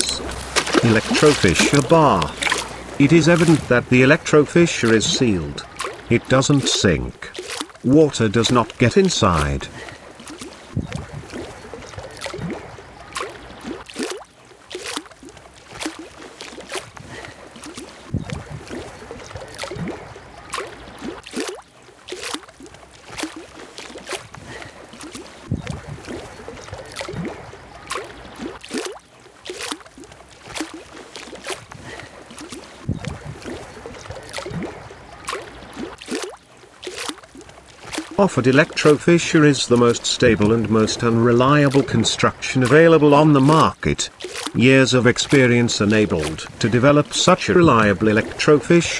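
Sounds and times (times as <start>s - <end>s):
pond water lapping and splashing: 0.0s - 48.9s.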